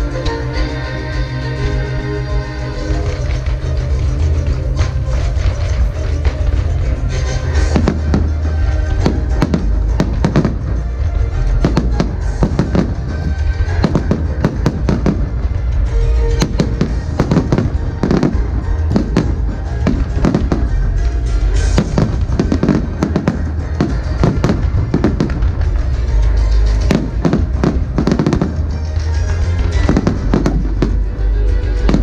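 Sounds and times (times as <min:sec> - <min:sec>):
music playing: 0:00.0 - 0:32.0
fireworks bangs: 0:03.0 - 0:32.0.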